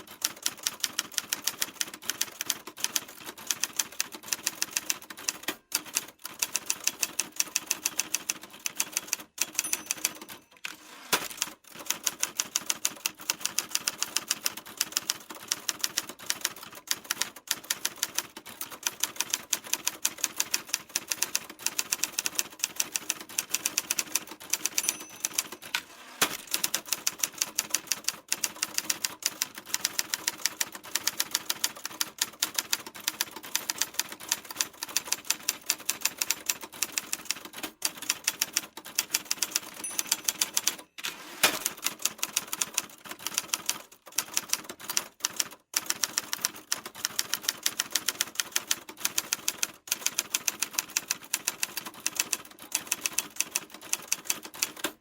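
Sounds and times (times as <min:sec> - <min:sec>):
typewriter keys clacking: 0:00.1 - 0:55.0.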